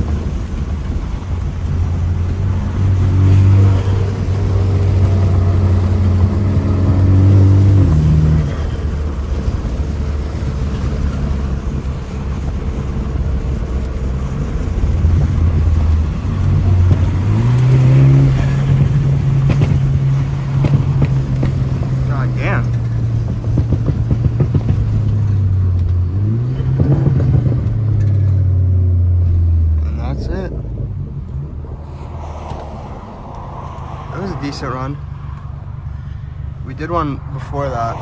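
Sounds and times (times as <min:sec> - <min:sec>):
car engine pulling: 0:00.0 - 0:38.0
road noise: 0:00.0 - 0:38.0.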